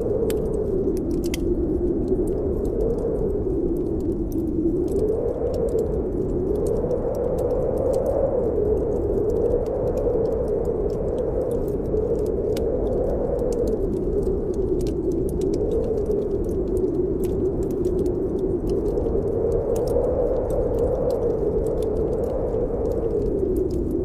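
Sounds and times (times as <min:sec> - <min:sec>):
blizzard wind howling: 0:00.0 - 0:24.0
wood fire crackling: 0:00.0 - 0:24.0.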